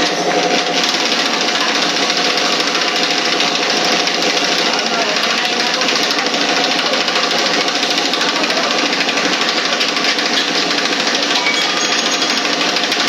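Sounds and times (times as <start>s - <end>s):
machine rattling: 0.0s - 13.0s.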